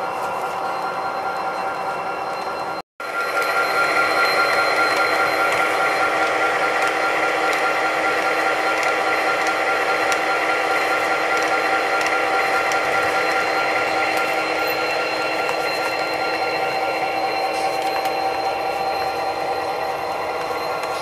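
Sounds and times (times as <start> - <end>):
model locomotive humming and whining: 0.0 - 21.0.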